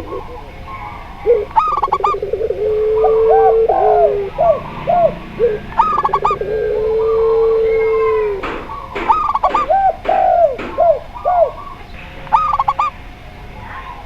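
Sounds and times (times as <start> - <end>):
long low coo: 0.0 - 12.9
doves cooing: 0.0 - 14.0
high staccato bird phrase: 0.0 - 14.0.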